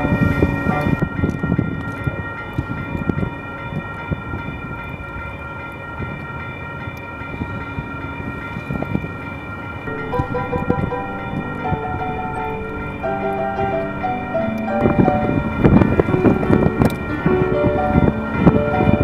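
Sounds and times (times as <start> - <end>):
train rumble: 0.0 - 19.0
train wheel clicks: 0.0 - 19.0.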